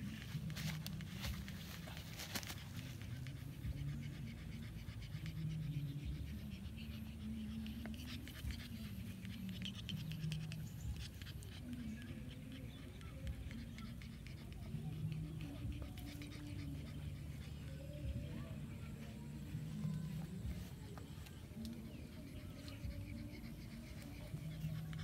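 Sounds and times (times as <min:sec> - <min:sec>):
puppy panting: 0:00.0 - 0:25.0.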